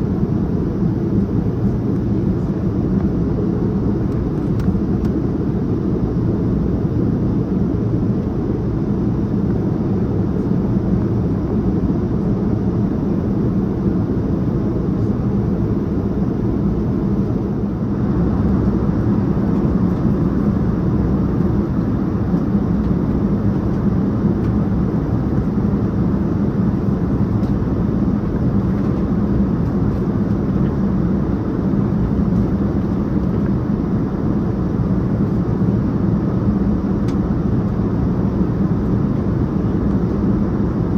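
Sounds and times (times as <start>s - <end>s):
airplane cabin engine noise: 0.0s - 40.9s
constant low hum: 0.0s - 40.9s.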